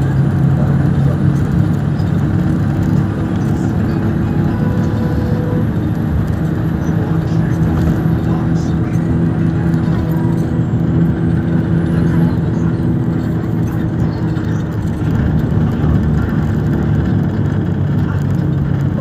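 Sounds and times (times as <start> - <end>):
road and traffic noise: 0.0 - 19.0
vehicle engine running: 0.0 - 19.0.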